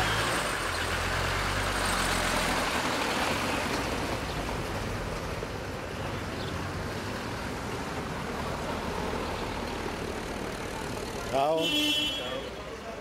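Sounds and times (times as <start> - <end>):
outdoor street noise: 0.0 - 13.0.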